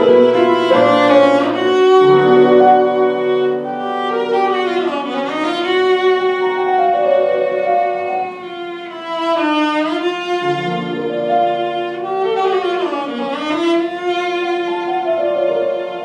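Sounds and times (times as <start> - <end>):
lower accompanying notes: 0.0 - 16.0
violin slow melody: 0.0 - 16.0.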